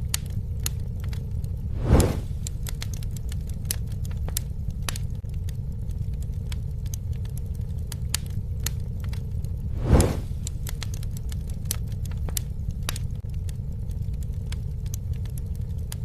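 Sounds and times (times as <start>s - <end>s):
campfire crackling and rumbling: 0.0s - 16.0s.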